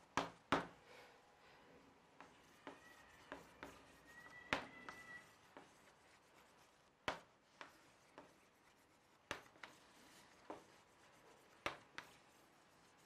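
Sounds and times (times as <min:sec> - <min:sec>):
chalk rubbing on chalkboard: 0:02.2 - 0:13.0
chalk tapping on board: 0:02.2 - 0:13.0.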